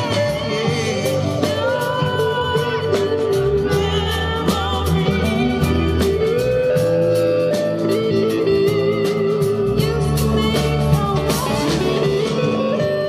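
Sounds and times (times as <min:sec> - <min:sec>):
lead guitar with bent notes: 0:00.0 - 0:13.0
rock band playing loudly: 0:00.0 - 0:13.0.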